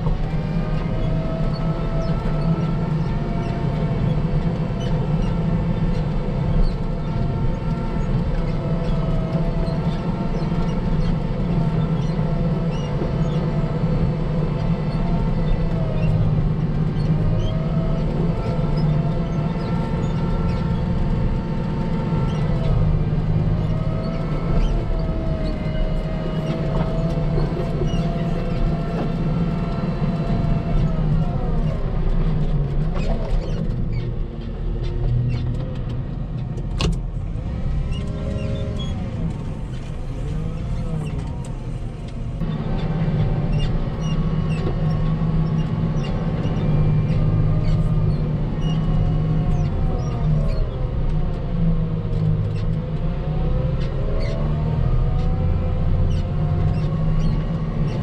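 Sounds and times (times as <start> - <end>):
diesel engine working: 0.0 - 58.0
plow pushing through snow: 0.0 - 58.0.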